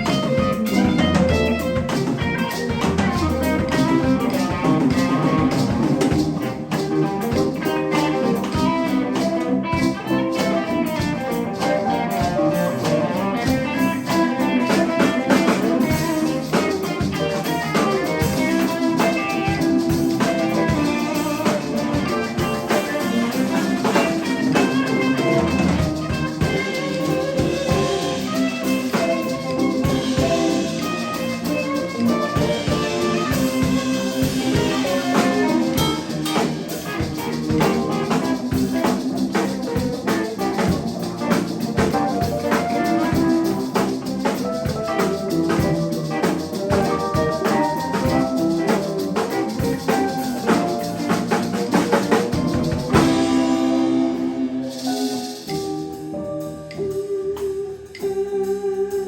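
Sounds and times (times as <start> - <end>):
drum kit steady beat: 0.0 - 58.6
live band playing: 0.0 - 59.0.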